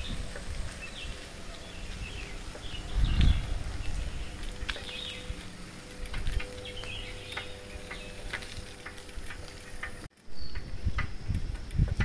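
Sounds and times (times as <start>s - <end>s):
birds chirping: 0.0s - 12.0s
low rumble: 0.0s - 12.0s.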